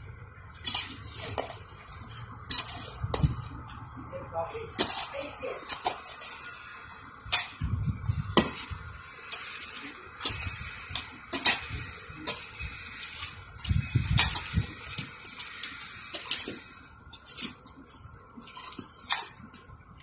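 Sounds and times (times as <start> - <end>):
trowel scraping soil: 0.6 - 19.7.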